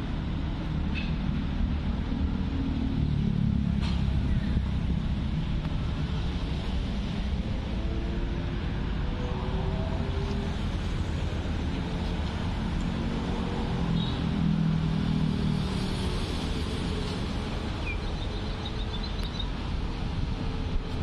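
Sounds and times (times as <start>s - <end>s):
urban traffic rumble: 0.0s - 21.0s.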